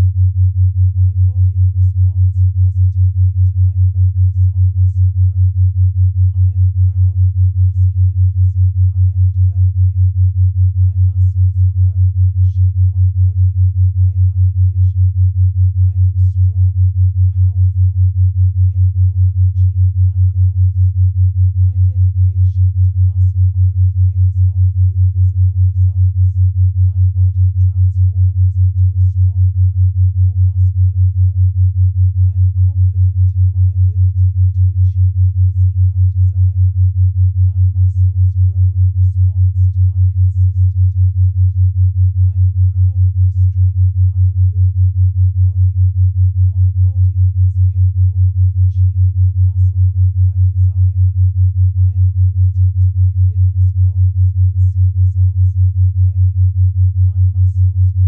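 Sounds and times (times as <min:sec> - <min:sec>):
pulsing low sine tone: 0:00.0 - 0:58.0.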